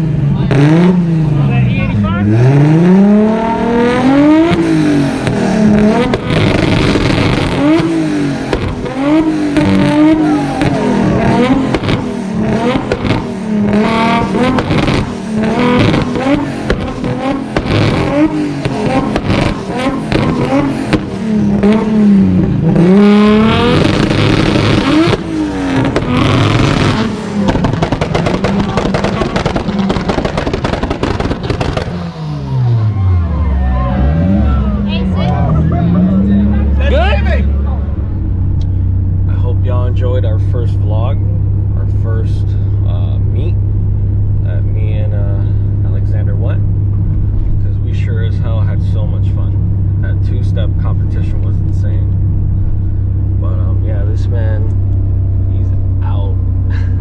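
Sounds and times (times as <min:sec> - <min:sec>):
car engines revving: 0:00.0 - 0:57.0
exhaust crackles: 0:00.0 - 0:57.0.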